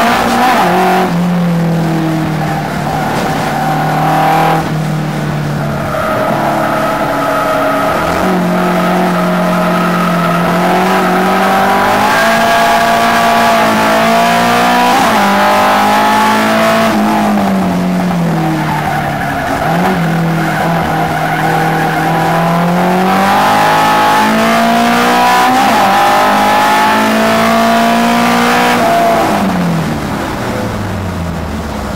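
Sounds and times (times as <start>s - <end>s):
race car engine revving: 0.0s - 31.9s.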